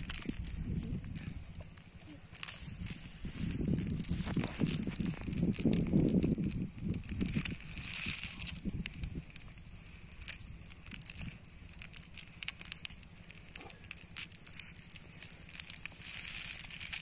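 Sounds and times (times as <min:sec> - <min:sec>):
net mesh rustling: 0:00.0 - 0:17.0
snail shells knocking together: 0:00.0 - 0:17.0.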